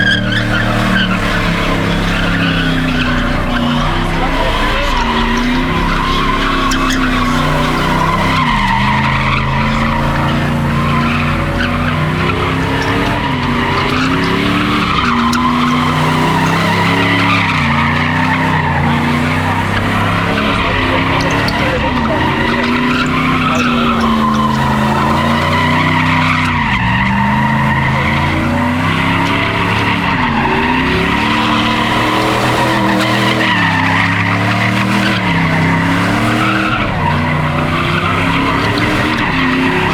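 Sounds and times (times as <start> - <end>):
car engine revving hard: 0.0 - 39.9
tyres squealing and skidding: 0.0 - 39.9.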